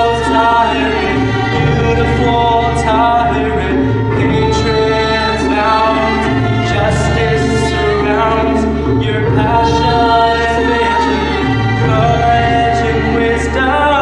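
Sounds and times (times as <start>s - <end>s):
cello: 0.0s - 14.0s
choir singing: 0.0s - 14.0s.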